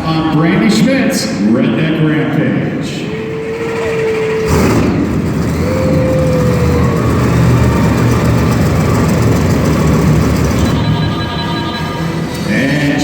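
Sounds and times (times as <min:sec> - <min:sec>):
truck engine starting and running: 0:00.0 - 0:13.0.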